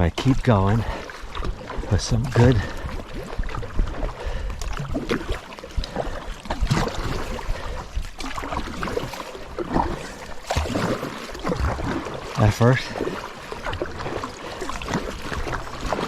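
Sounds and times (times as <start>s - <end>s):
paddle strokes splashing: 0.0s - 16.0s
rushing river water: 0.0s - 16.0s.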